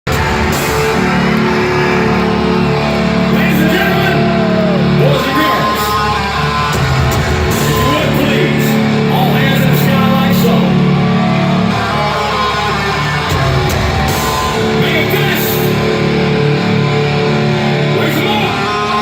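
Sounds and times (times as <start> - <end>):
heavy electric guitar: 0.0 - 19.0
live rock band: 0.0 - 19.0.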